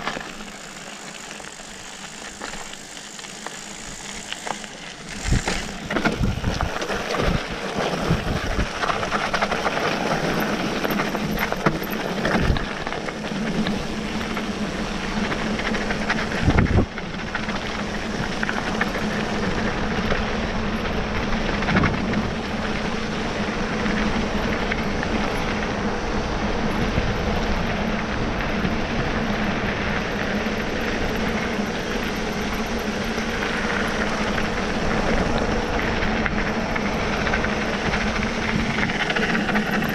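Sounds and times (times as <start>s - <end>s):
bike knocking and rattling: 0.0s - 39.9s
steady low hum: 0.0s - 39.9s
tyres rolling over gravel: 0.0s - 39.9s
wind rushing over microphone: 1.5s - 39.9s.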